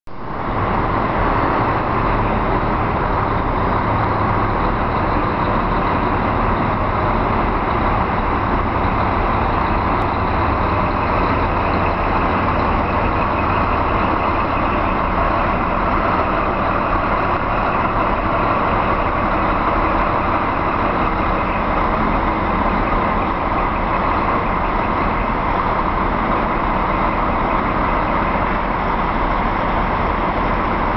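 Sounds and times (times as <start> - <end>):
diesel truck engine running: 0.1 - 30.9.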